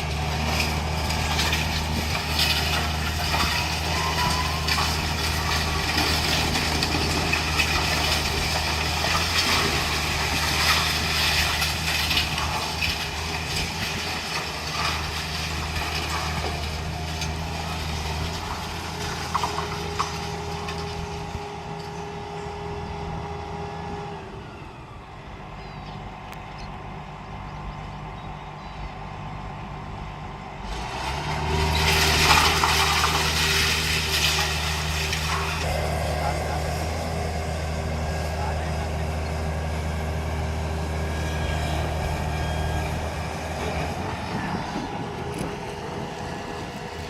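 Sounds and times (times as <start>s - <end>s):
heavy diesel machinery running: 0.0s - 47.0s.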